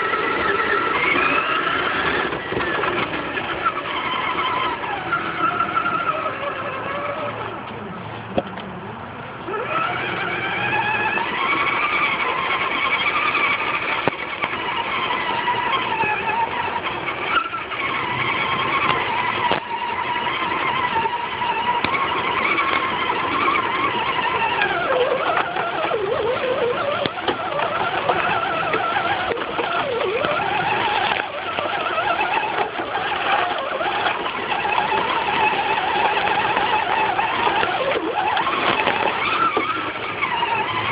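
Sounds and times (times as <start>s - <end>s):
toy car electric motor whining: 0.0s - 40.9s.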